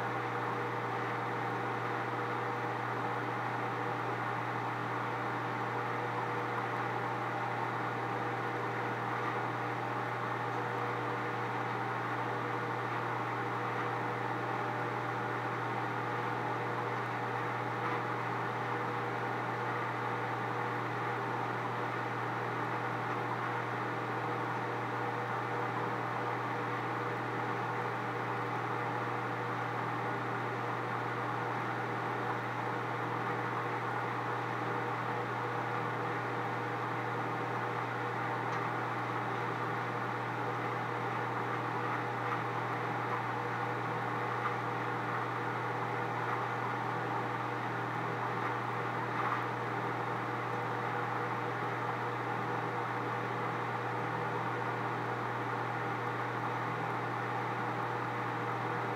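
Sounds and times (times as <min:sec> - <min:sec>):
microwave oven humming and whirring: 0:00.0 - 0:58.9.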